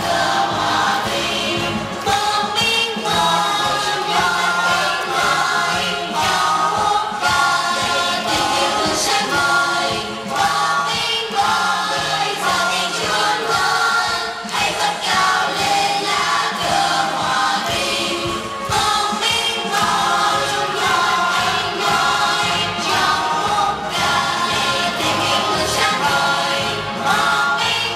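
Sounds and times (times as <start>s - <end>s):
accompaniment with steady beat: 0.0s - 27.9s
choir singing: 0.0s - 27.9s.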